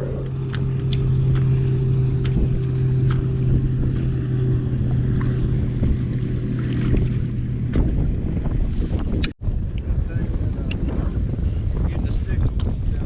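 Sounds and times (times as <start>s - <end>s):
boat motor humming: 0.0s - 11.9s
wind buffeting microphone: 0.0s - 13.0s.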